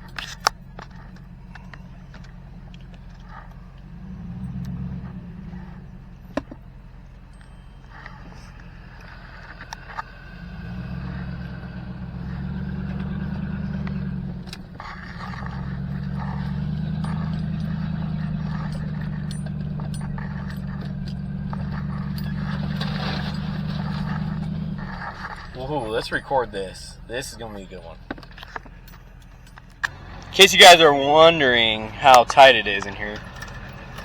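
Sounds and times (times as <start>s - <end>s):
pickup truck engine running: 0.0s - 34.0s.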